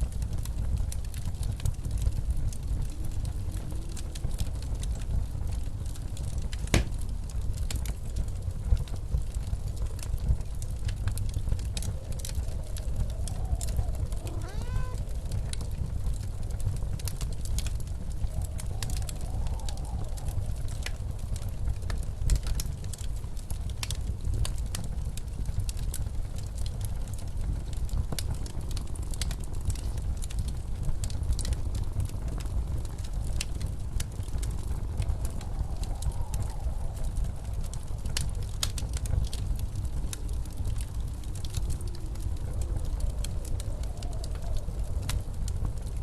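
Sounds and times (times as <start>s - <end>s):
blizzard wind rumbling: 0.0s - 46.0s
wood fire crackling: 0.0s - 46.0s.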